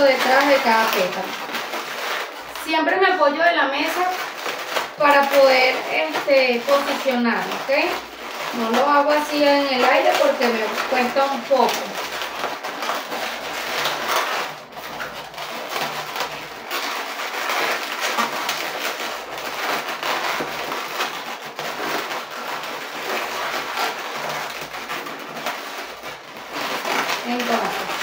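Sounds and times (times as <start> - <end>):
balloons rubbing and squeaking: 0.0 - 28.0.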